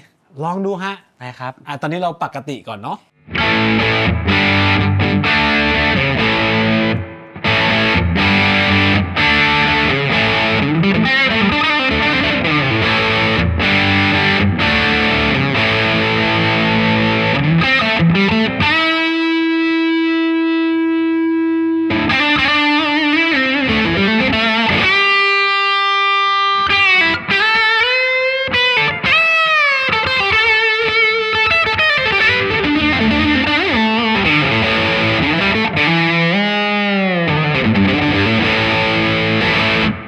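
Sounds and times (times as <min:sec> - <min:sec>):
overdriven electric guitar lead: 0:03.2 - 0:40.0.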